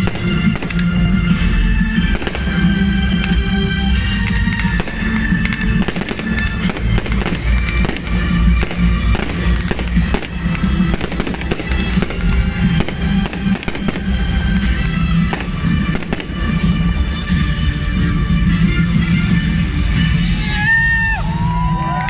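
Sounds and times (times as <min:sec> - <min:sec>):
fireworks bangs and crackles: 0:00.0 - 0:20.3
music: 0:00.0 - 0:22.0.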